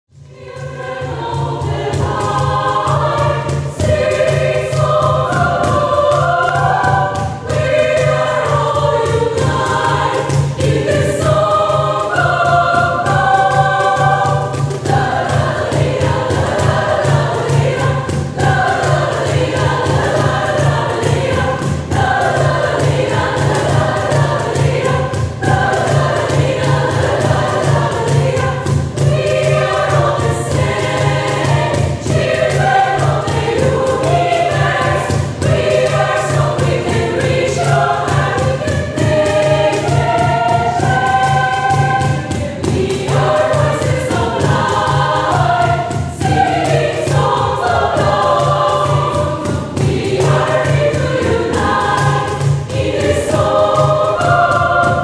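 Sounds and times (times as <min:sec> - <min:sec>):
mixed choir singing: 0:00.2 - 0:55.0.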